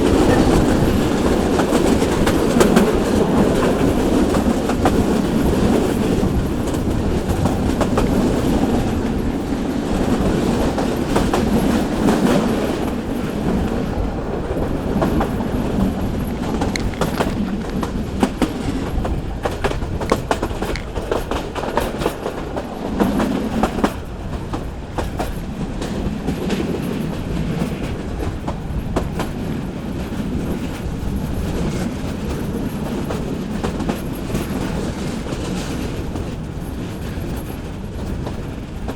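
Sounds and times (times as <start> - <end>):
train rumbling along track: 0.0 - 38.9
wheels clacking over rail joints: 0.0 - 38.9.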